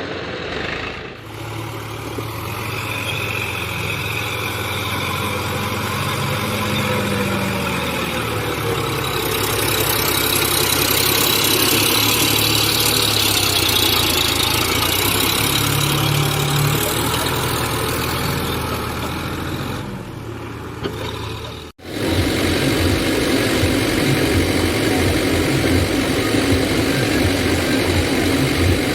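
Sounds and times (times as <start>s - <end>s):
throbbing engine note: 0.0s - 19.9s, 21.8s - 28.9s
tractor diesel engines running: 0.0s - 28.9s.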